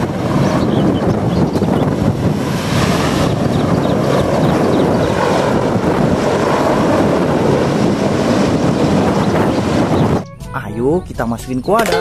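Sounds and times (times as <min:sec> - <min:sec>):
helicopter rotor and engines: 0:00.0 - 0:12.0.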